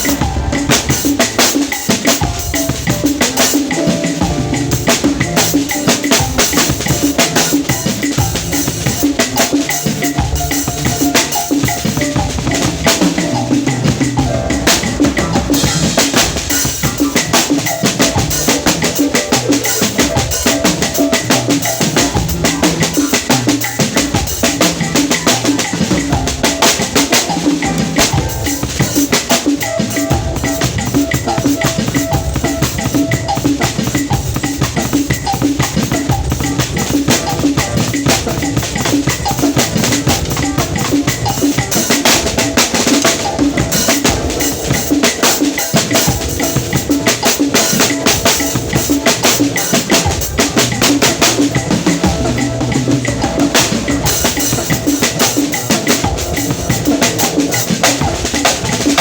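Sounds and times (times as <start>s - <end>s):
drum kit playing fast: 0.0s - 59.0s.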